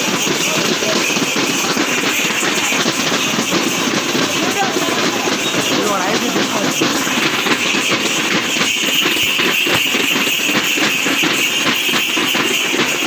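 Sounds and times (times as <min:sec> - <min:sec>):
frame drums beaten in fast rhythm: 0:00.0 - 0:13.0
metal bells jingling: 0:00.0 - 0:13.0.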